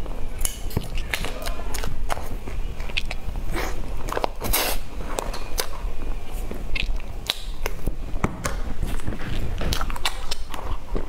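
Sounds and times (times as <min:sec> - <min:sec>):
person chewing cake: 0:00.0 - 0:11.0.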